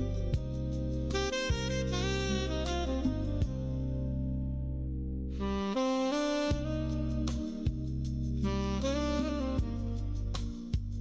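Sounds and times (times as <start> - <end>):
slow jazz instrumental: 0.0 - 11.0.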